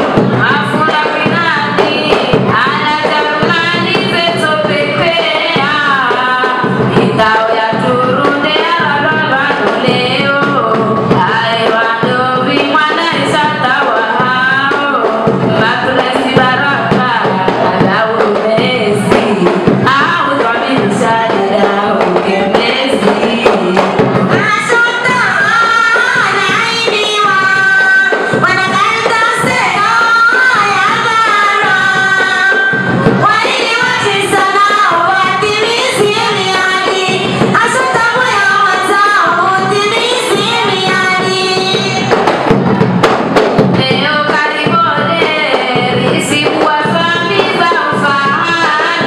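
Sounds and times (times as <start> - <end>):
women singing into microphones: 0.0 - 42.6, 43.6 - 49.0
percussion: 0.0 - 49.0.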